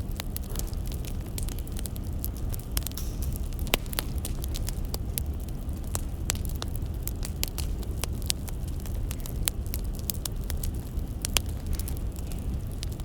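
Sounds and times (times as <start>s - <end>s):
low steady rumble: 0.0s - 13.0s
wood fire crackling and popping: 0.0s - 13.0s.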